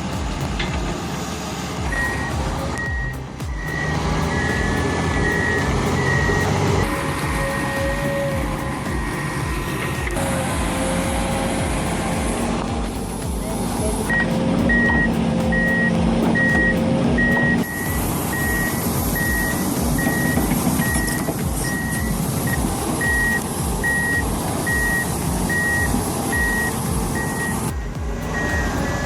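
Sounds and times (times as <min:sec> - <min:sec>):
diesel engine running: 0:00.0 - 0:29.0
reversing alarm beeping: 0:01.9 - 0:11.5, 0:14.1 - 0:29.0.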